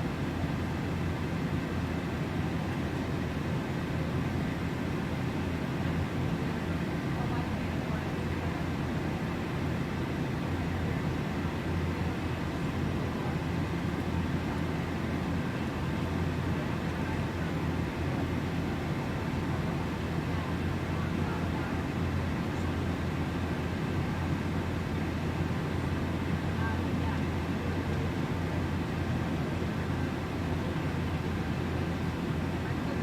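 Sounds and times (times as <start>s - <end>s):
airliner cabin engine roar: 0.0s - 33.0s.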